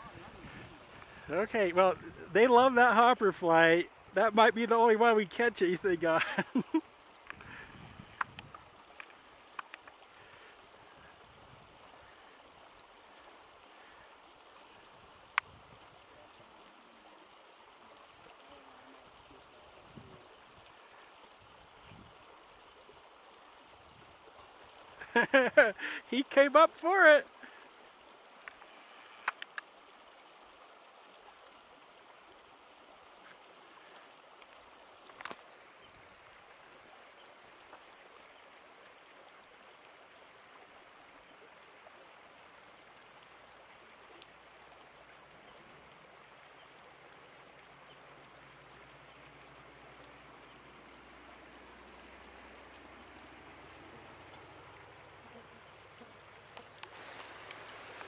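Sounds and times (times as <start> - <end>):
creek flowing: 0.0 - 58.0.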